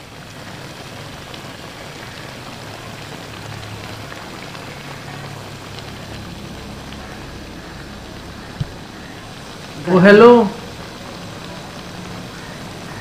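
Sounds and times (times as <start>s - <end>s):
food sizzling and bubbling in a pot: 0.0s - 13.0s.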